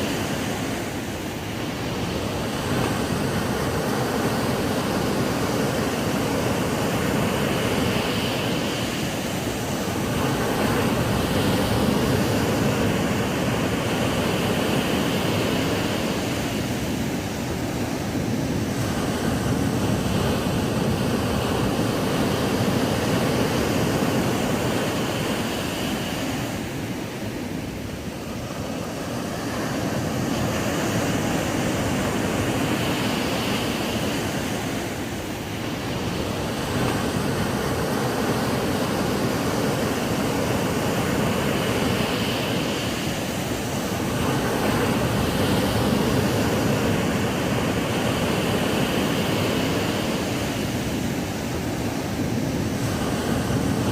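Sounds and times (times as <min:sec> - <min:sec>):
ocean waves breaking on beach: 0:00.0 - 0:53.9.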